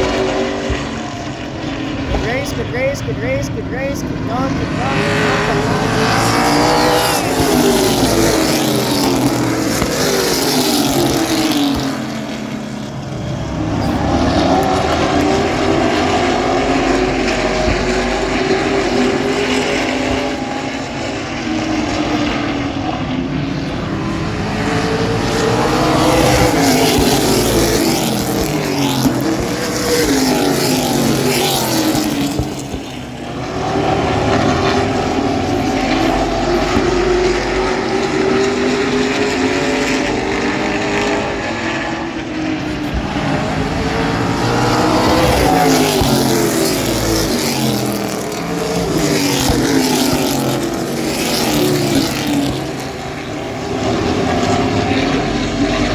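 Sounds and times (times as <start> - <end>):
race truck engines passing: 0.0 - 55.9.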